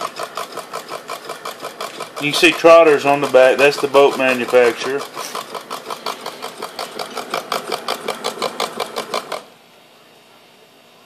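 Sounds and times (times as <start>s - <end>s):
small motor paddle wheel clacking: 0.0s - 9.5s.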